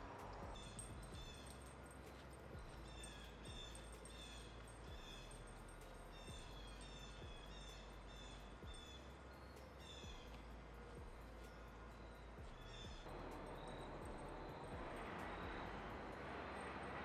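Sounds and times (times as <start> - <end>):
faint bird chirps: 0.0 - 16.2.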